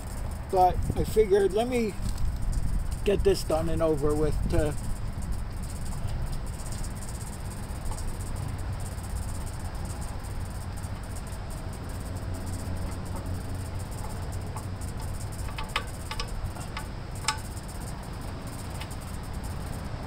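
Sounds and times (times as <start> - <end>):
insects chirping: 0.0 - 20.0
low background rumble: 0.0 - 20.0.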